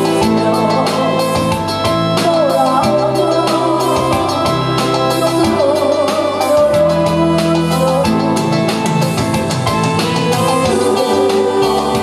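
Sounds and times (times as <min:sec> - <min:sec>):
woman singing with vibrato: 0:00.0 - 0:08.5, 0:10.0 - 0:12.0
keyboard accompaniment: 0:00.0 - 0:12.0
steady drum beat: 0:00.0 - 0:12.0.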